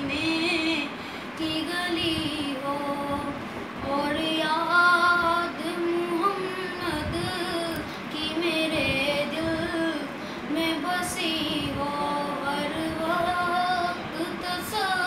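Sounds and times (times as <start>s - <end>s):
boy singing: 0.0s - 15.0s.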